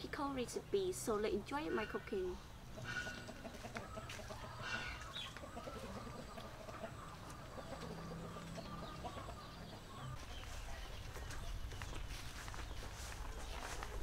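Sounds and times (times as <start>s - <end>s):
chickens clucking: 0.7s - 14.0s.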